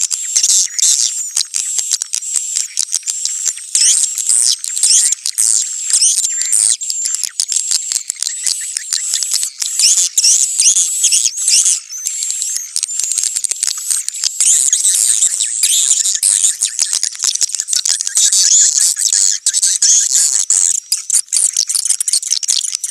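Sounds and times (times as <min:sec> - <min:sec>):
flock of birds chirping: 0:00.1 - 0:22.9.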